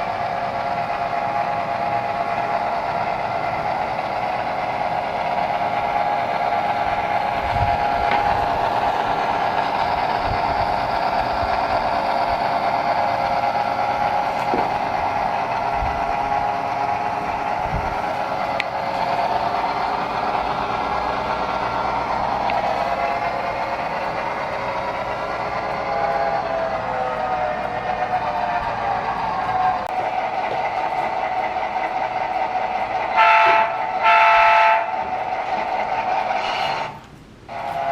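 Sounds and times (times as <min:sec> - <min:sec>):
model train motor whine: 0:00.0 - 0:37.9.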